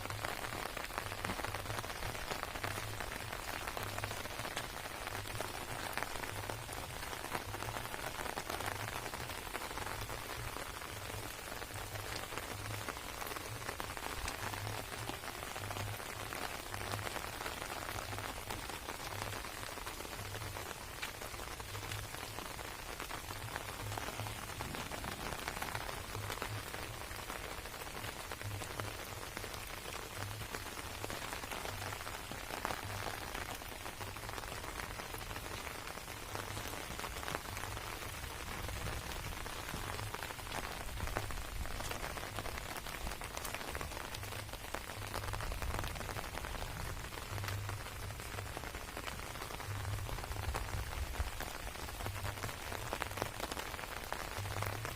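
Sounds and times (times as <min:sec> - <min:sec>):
rain falling on plants: 0:00.0 - 0:54.9.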